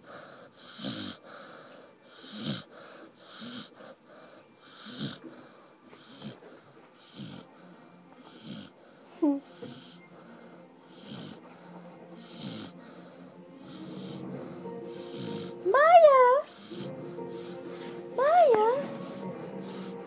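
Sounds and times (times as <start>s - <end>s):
puppy snoring: 0.0s - 20.0s.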